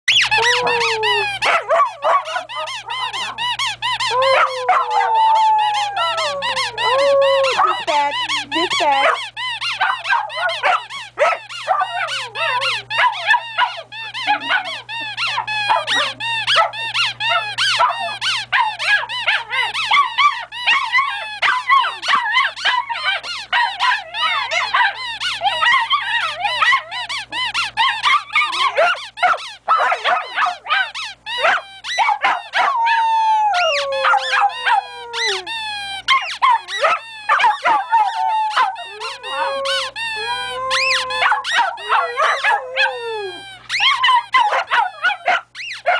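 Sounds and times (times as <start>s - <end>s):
squeaky toy squeaking: 0.1s - 4.5s, 6.2s - 32.7s, 33.6s - 45.9s
dogs howling: 0.1s - 45.9s.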